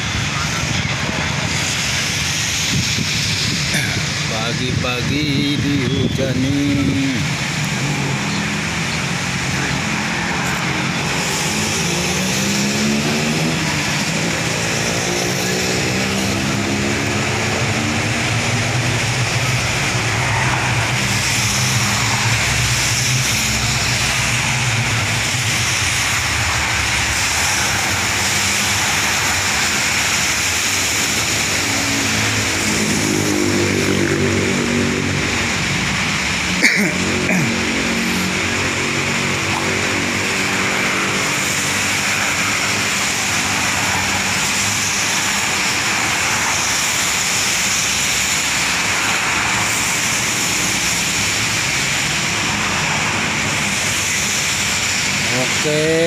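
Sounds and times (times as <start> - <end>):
wind: 0.0 - 56.0
rain on a wet road: 6.8 - 56.0.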